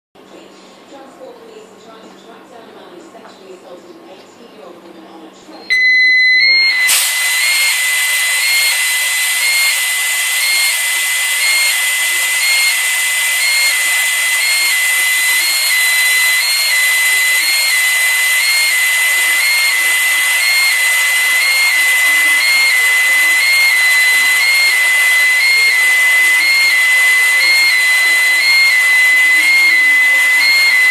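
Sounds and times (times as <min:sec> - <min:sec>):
shrill alarm tone: 0:05.6 - 0:30.9
fog generator hissing: 0:05.8 - 0:30.9.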